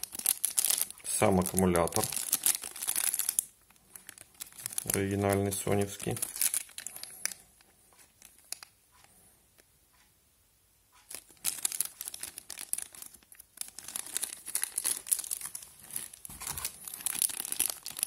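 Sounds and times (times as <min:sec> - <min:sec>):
plastic wrapping crinkling: 0:00.0 - 0:07.4, 0:08.0 - 0:09.1, 0:11.0 - 0:18.0.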